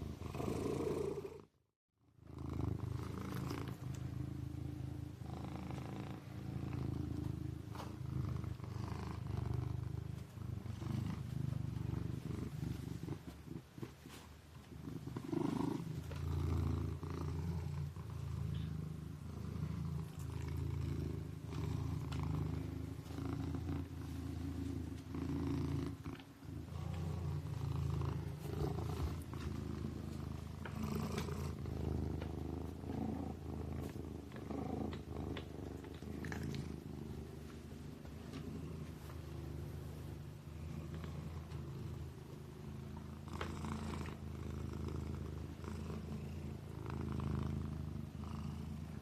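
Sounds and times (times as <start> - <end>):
kitten purring: 0.0 - 1.6, 2.2 - 49.0.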